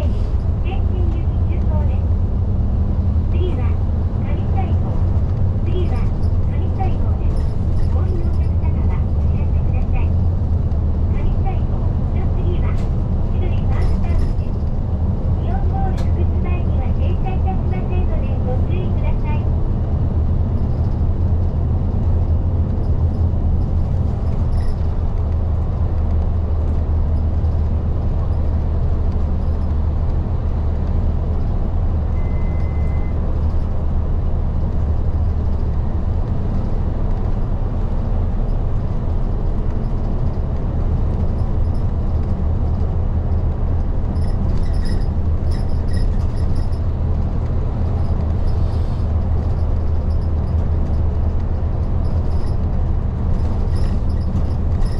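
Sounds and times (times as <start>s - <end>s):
bus diesel engine hum: 0.0s - 54.9s
road noise: 0.0s - 54.9s.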